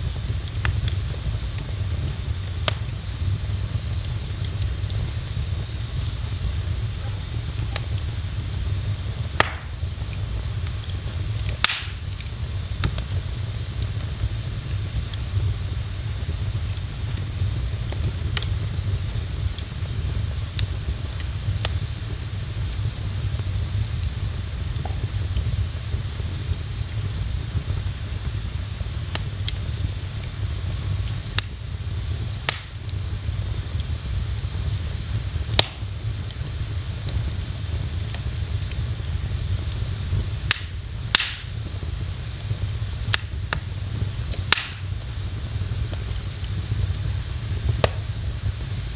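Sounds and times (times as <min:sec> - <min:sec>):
rain hissing: 0:00.0 - 0:48.9
wood fire crackling: 0:00.0 - 0:48.9.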